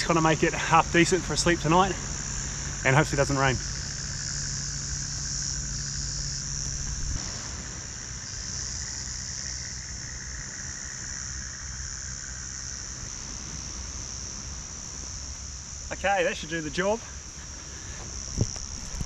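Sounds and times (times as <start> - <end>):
insects chorus: 0.0 - 19.0
low hum: 0.0 - 19.0.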